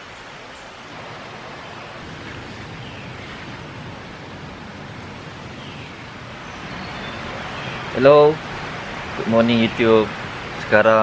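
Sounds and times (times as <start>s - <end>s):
rushing outdoor ambience: 0.0s - 11.0s.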